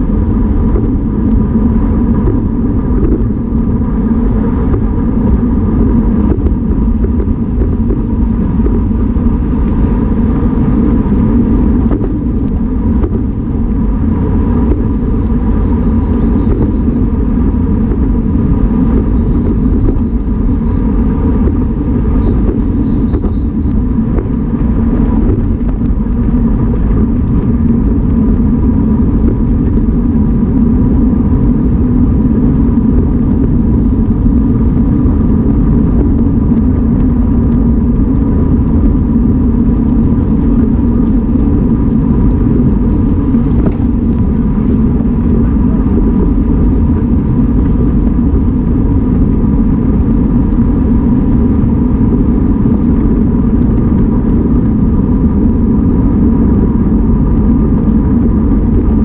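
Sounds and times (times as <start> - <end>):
thin steady whine: 0.0 - 59.0
wind buffeting microphone: 0.0 - 59.0.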